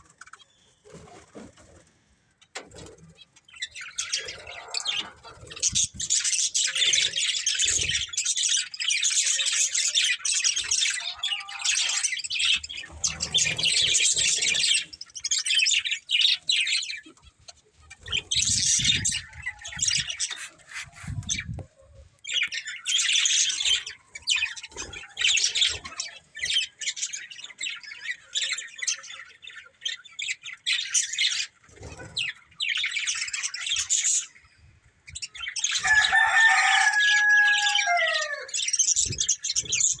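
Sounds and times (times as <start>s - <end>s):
budgerigars chattering and chirping: 2.5s - 21.6s, 22.2s - 40.0s.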